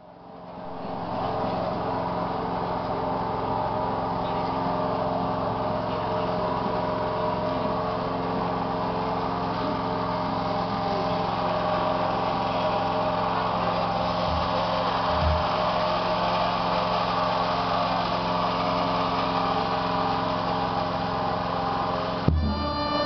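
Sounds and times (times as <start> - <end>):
small engine humming: 0.2 - 23.0.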